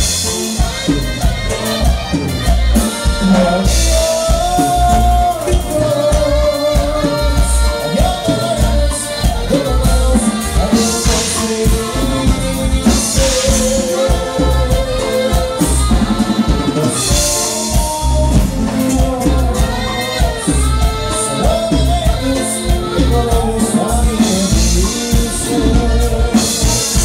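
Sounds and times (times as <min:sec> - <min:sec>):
live latin dance band: 0:00.0 - 0:27.0
person singing: 0:00.0 - 0:27.0.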